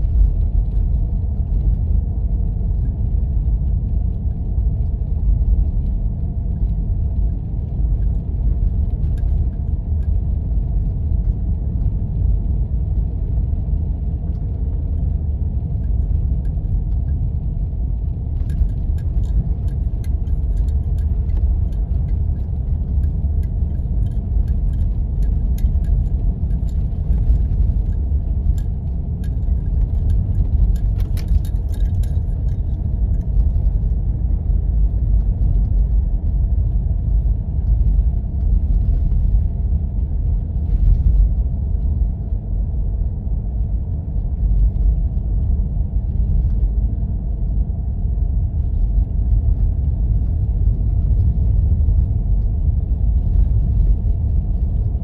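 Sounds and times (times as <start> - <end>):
faint ticks and rattles: 0.0 - 55.0
road and engine rumble in car: 0.0 - 55.0.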